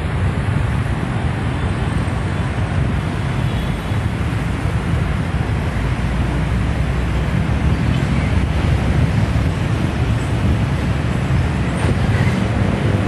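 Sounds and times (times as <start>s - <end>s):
city traffic noise: 0.0s - 13.0s
wind buffeting microphone: 0.0s - 13.0s.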